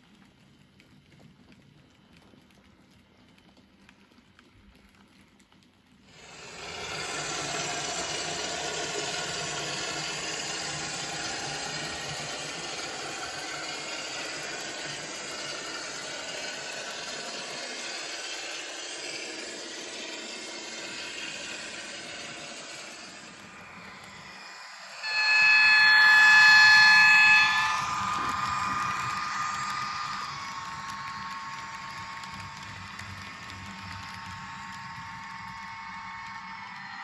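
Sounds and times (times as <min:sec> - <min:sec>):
model locomotive diesel engine sound: 0:06.0 - 0:37.0.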